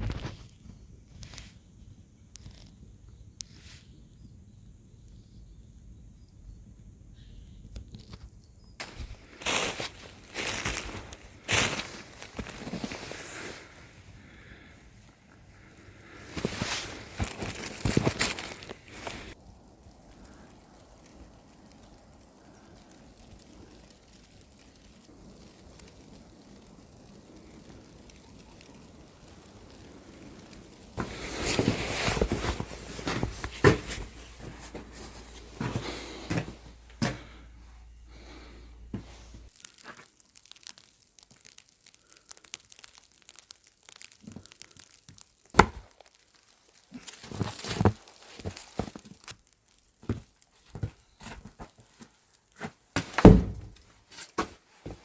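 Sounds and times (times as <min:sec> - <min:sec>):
rustling and crinkling handling: 0:00.0 - 0:01.6, 0:07.9 - 0:55.0
faint steady hiss: 0:00.0 - 0:55.0.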